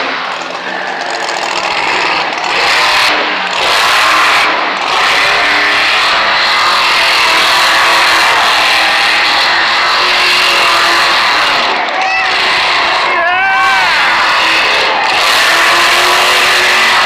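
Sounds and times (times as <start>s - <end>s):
truck engine at high revs: 0.0s - 17.0s.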